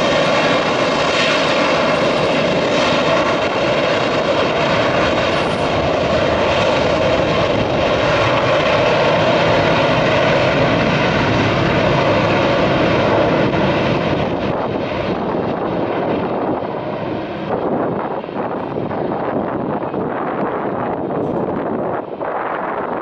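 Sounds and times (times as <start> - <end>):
jet engine roar with whine: 0.0 - 23.0.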